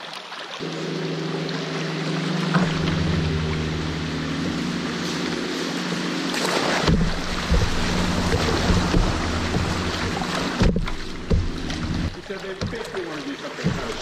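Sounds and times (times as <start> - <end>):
river water rushing around hull: 0.0 - 14.0
water splashing over bow: 0.0 - 14.0.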